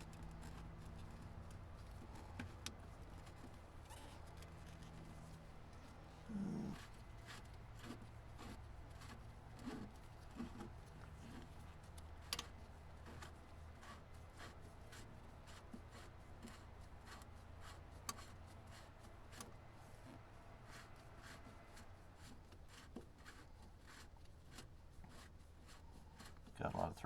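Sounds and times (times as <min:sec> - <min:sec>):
filter housing rubbing and clicking: 0:00.0 - 0:26.8.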